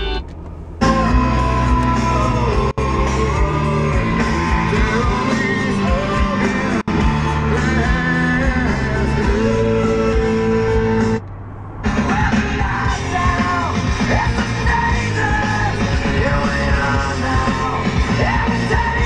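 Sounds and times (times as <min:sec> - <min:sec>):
rock song on car radio: 0:00.0 - 0:19.0.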